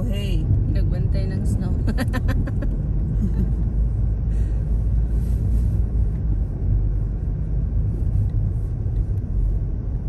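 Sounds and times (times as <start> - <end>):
car interior road rumble: 0.0 - 10.0.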